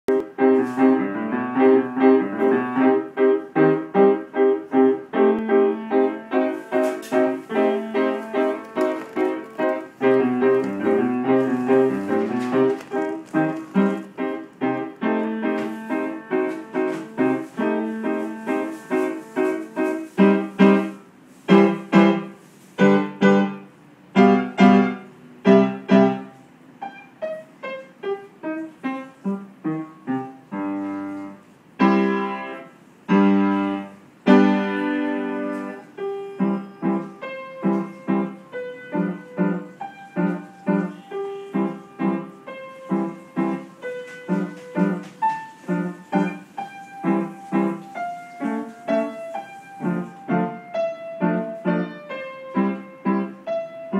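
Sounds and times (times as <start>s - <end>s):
upright piano chords: 0.1s - 53.9s.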